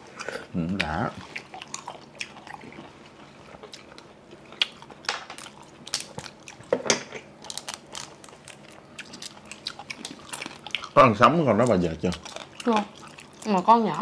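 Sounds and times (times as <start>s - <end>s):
crunchy chewing: 0.1s - 14.0s.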